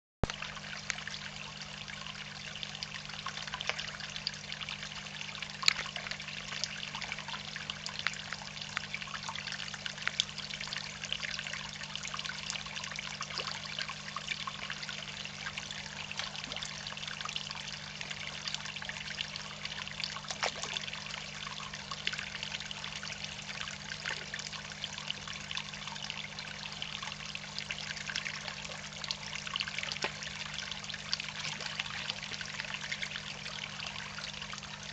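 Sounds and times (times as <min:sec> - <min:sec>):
water trickling into pond: 0:00.2 - 0:34.9.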